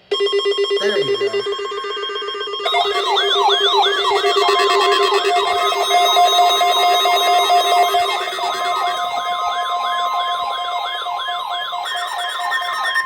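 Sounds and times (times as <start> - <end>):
steady alarm tones: 0.0 - 13.0
electronic siren wail: 0.1 - 13.0.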